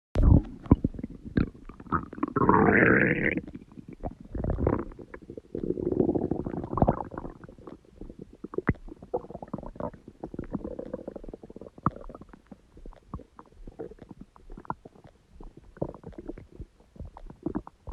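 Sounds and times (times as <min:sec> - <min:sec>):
stomach growling and gurgling: 0:00.2 - 0:17.9.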